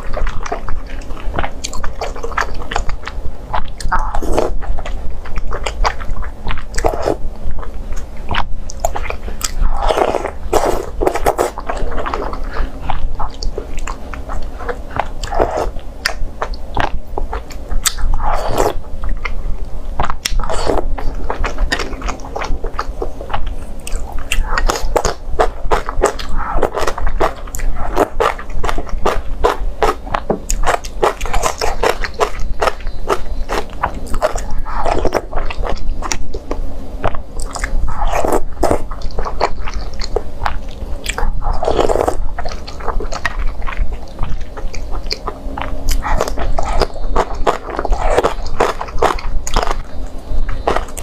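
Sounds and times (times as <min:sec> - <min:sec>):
crunchy food chewing: 0:00.0 - 0:51.0.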